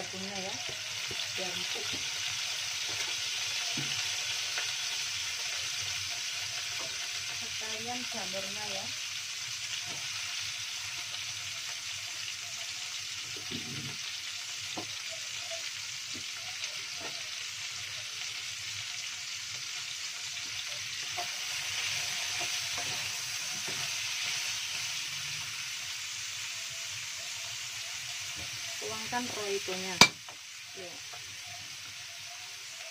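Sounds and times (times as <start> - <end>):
vegetables sizzling in oil: 0.0 - 32.9.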